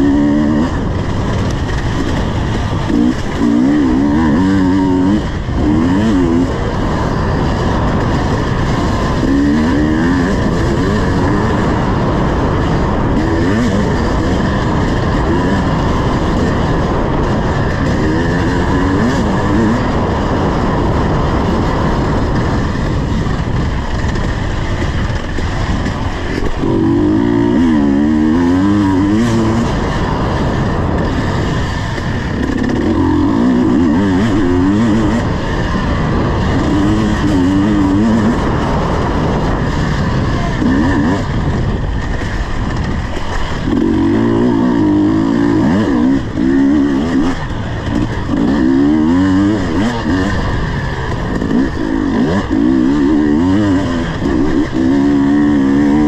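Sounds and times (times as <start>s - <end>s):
two-stroke dirt bike engine revving: 0.0s - 56.0s.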